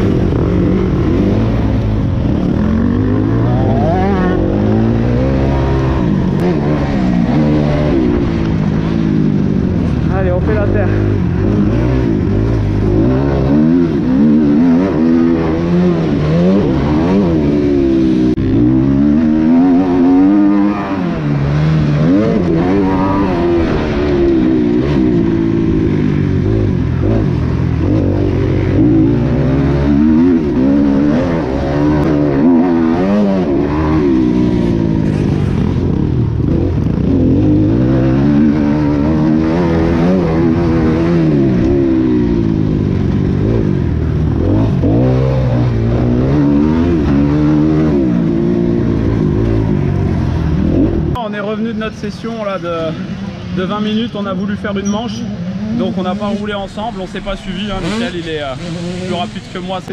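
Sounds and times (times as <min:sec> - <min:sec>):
motocross engine revving: 0:00.0 - 0:51.8, 0:52.5 - 0:59.9.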